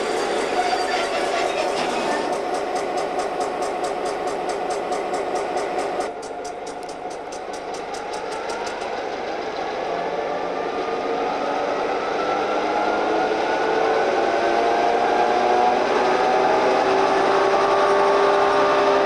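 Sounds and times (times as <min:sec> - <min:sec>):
diesel locomotive engine: 0:00.0 - 0:19.0.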